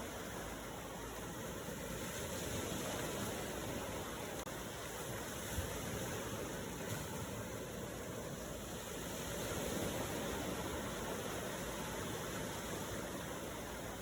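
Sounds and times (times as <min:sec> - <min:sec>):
ocean waves washing: 0:00.0 - 0:14.0.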